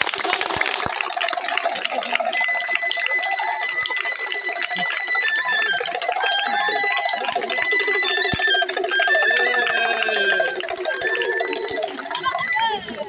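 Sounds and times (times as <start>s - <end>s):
crowd clapping: 0.0s - 13.0s
shrill warbling tone: 2.0s - 13.0s.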